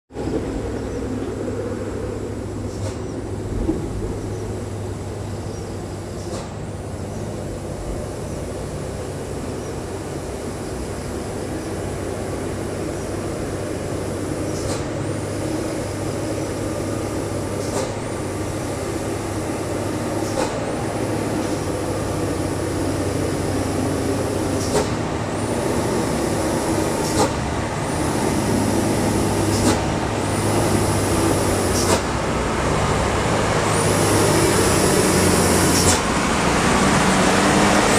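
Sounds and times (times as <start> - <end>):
diesel truck engine running: 0.1 - 37.9.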